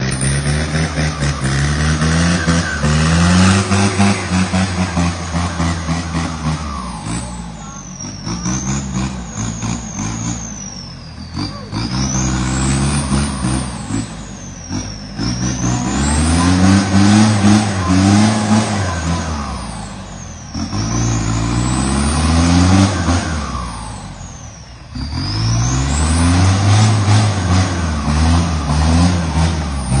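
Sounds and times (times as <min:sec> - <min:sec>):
toy truck engine revving: 0:00.0 - 0:30.0.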